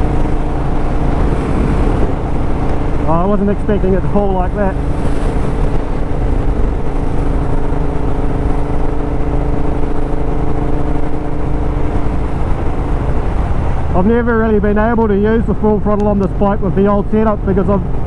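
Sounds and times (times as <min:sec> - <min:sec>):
low wind rumble: 0:00.0 - 0:18.0
motorcycle engine cruising: 0:00.0 - 0:18.0.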